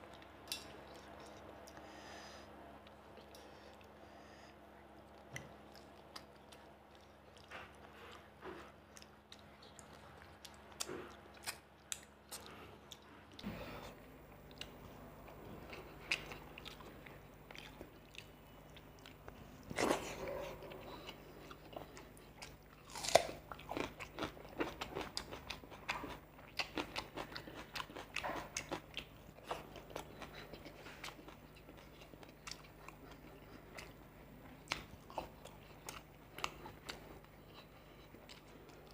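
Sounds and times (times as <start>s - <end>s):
faint steady hum: 0.0s - 38.9s
person chewing and biting: 5.1s - 38.9s.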